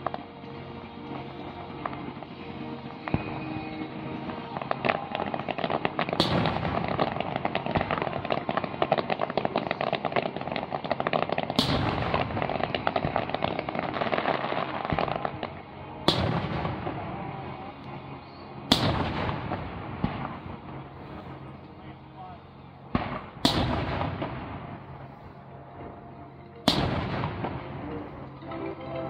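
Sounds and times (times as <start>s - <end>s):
fireworks crackling: 0.0s - 29.0s
firework shells booming: 1.8s - 29.0s.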